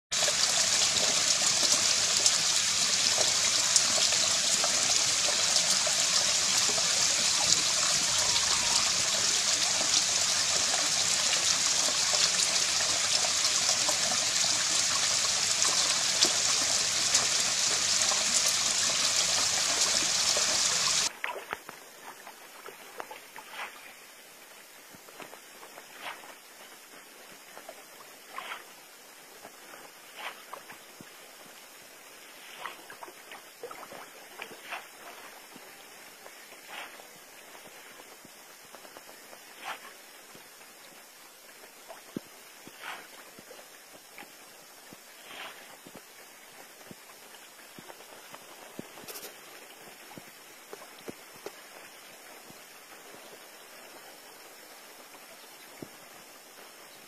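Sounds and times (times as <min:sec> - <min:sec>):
stream trickling over stones: 0:00.1 - 0:57.0.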